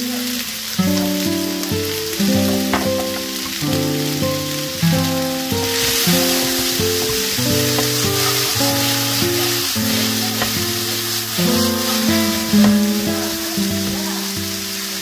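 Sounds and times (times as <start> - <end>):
onions sizzling in a frying pan: 0.0 - 15.0
plucked guitar music: 0.0 - 15.0.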